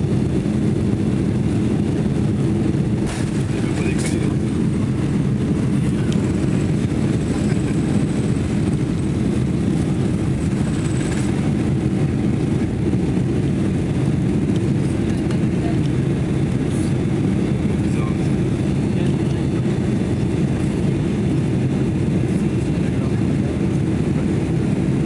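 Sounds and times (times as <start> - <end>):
jet engines heard from cabin: 0.0 - 25.0.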